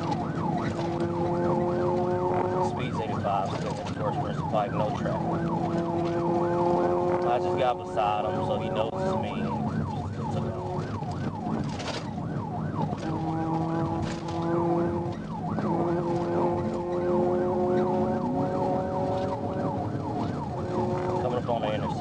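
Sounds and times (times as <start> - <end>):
engine and road noise drone: 0.0 - 22.0
police siren yelping: 0.0 - 22.0.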